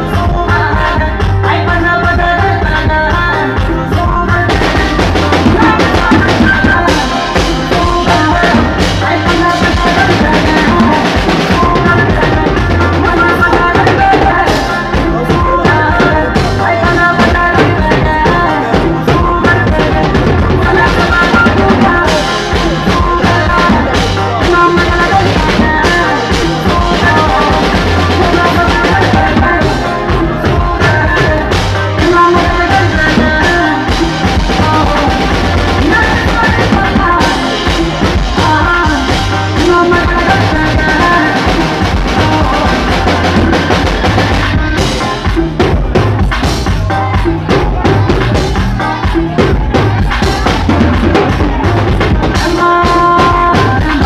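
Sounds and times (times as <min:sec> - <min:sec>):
drum kit playing: 0:00.0 - 0:54.0
loud backing music: 0:00.0 - 0:54.0.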